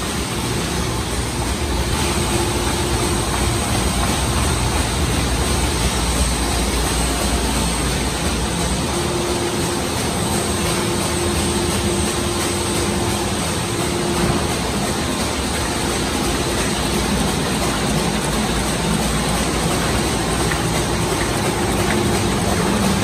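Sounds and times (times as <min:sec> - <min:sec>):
loud machine running: 0:00.0 - 0:23.0.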